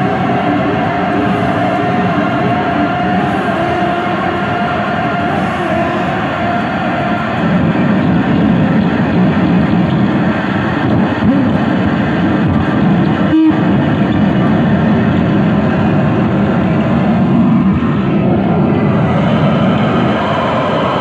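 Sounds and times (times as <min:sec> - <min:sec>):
harsh distorted noise music: 0:00.0 - 0:21.0.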